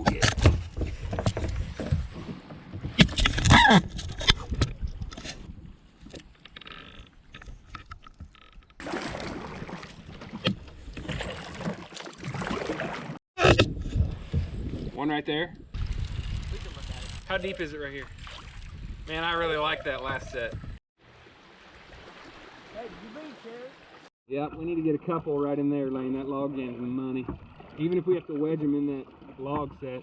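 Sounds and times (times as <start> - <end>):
water noise: 0.6 - 15.0, 15.7 - 30.0.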